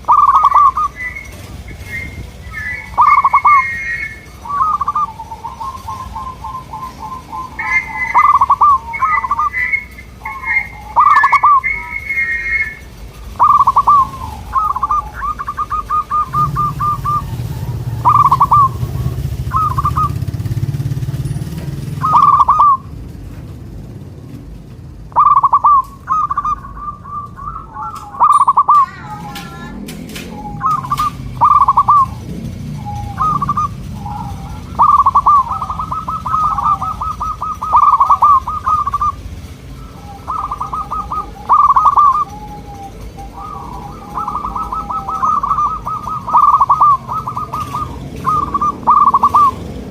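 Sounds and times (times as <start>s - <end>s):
doves cooing: 0.0s - 49.9s
low background rumble: 0.0s - 49.9s.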